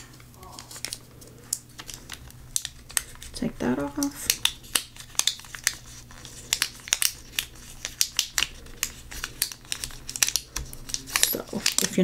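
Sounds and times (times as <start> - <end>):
vinyl sheet crinkling and crackling: 0.0 - 12.0.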